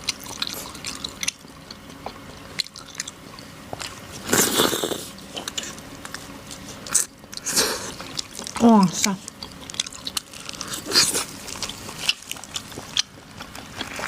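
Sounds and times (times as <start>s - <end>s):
chewing and mouth smacks: 0.0s - 8.6s, 9.2s - 14.0s.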